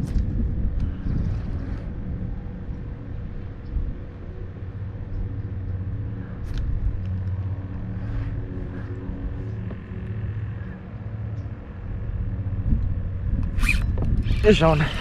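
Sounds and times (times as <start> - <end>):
wind buffeting microphone: 0.0 - 10.8, 11.4 - 15.0.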